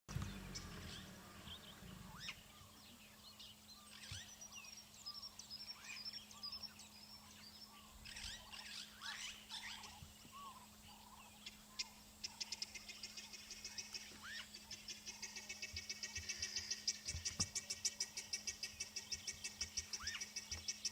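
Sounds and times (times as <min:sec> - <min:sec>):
guineafowl alarm calls: 0:00.1 - 0:03.2, 0:05.2 - 0:20.9
bird chirps: 0:00.1 - 0:20.9.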